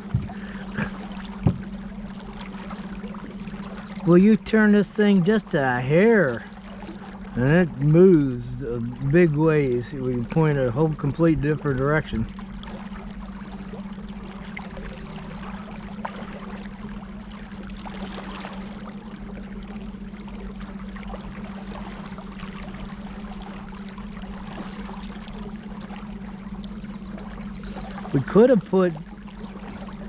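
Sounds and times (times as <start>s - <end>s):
electric motors humming: 0.0s - 30.0s
moving water: 0.0s - 30.0s.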